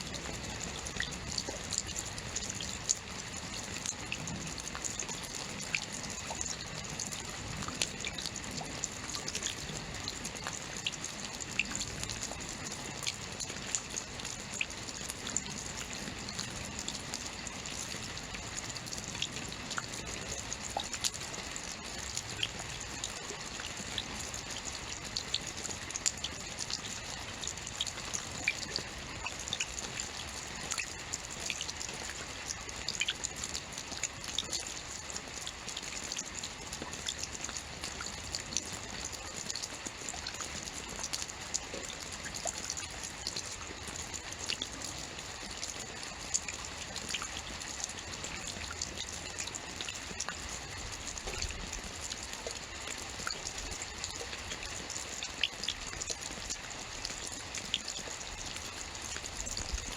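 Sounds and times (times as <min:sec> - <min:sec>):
close drips and patters: 0:00.0 - 0:59.9
steady rain falling: 0:00.0 - 0:59.9.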